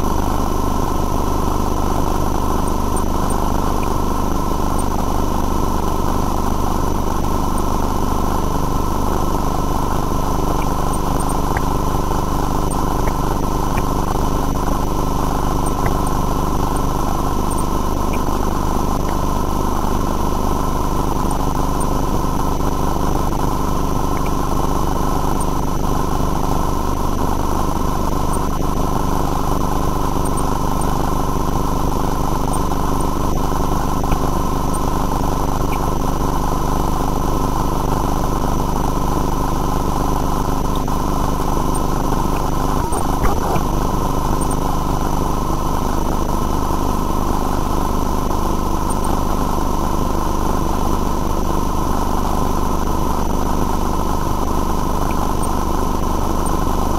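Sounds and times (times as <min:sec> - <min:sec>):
high-pitched electrical whine: 0:00.0 - 0:56.9.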